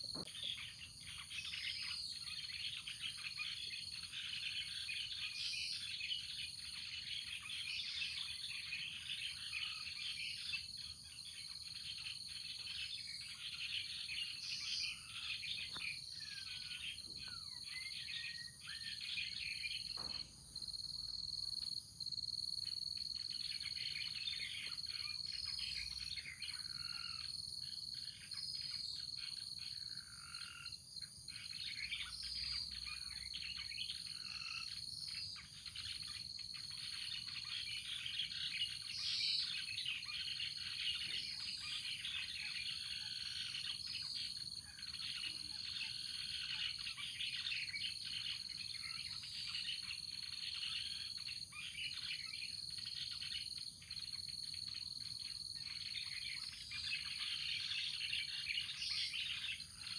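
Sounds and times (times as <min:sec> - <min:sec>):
birds chirping: 0:00.0 - 0:59.9
insect drone: 0:00.0 - 0:59.9.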